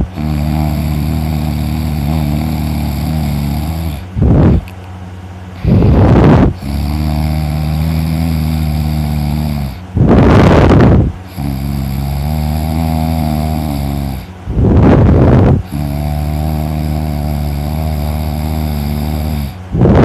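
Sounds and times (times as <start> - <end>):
person snoring: 0.0 - 4.6, 5.6 - 20.0
low droning breath: 0.0 - 4.7, 5.5 - 20.0.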